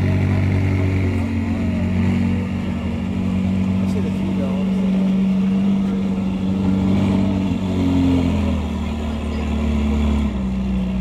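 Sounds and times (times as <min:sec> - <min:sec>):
sports car engine at low revs: 0:00.0 - 0:11.0.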